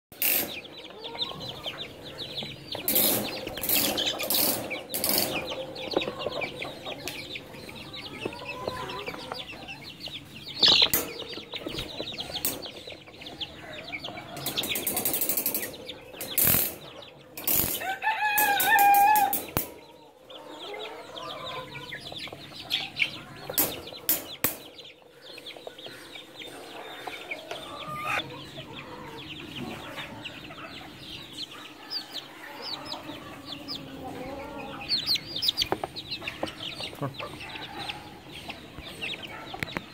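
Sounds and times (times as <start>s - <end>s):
chicks cheeping: 0.1s - 39.9s.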